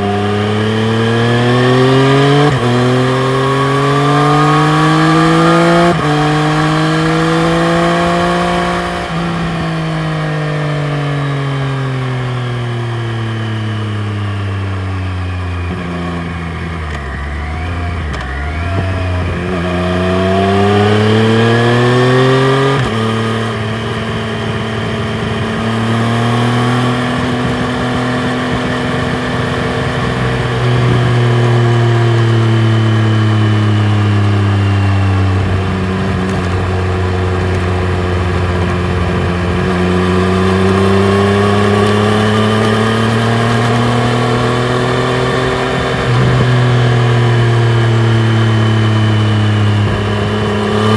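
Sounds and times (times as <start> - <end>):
motorcycle engine on the road: 0.0 - 50.9.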